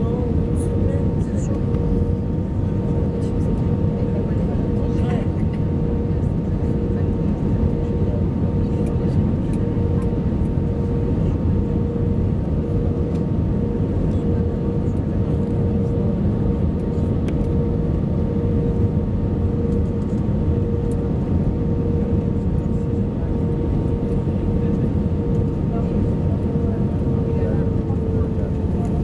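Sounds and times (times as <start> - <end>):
airplane cabin rumble: 0.0 - 29.0.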